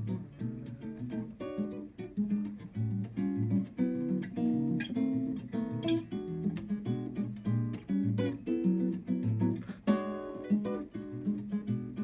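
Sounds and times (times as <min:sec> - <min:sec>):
classical guitar fingerstyle: 0:00.0 - 0:12.0.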